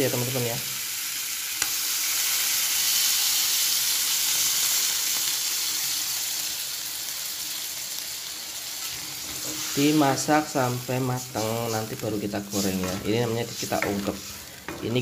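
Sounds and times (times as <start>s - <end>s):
water sizzling in hot wok: 0.0s - 15.0s.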